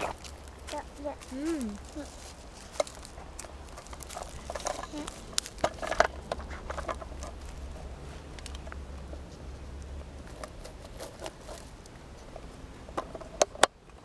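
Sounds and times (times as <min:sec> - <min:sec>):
dry leaves crunching underfoot: 0:00.0 - 0:12.4.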